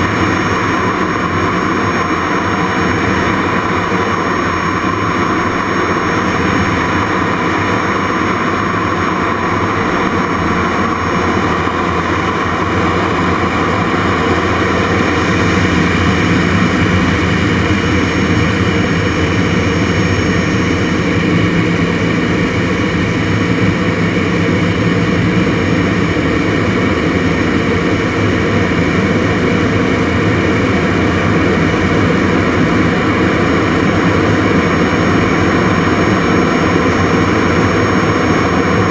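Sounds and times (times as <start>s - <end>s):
jet engine running: 0.0s - 38.9s
rushing airflow: 0.0s - 38.9s
thin high whine: 0.0s - 38.9s.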